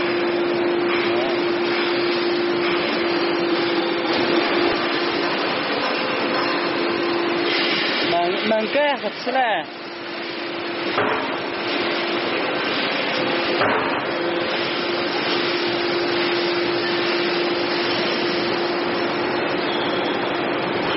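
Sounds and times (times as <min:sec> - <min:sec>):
hydraulic baler running with whine: 0:00.0 - 0:20.9.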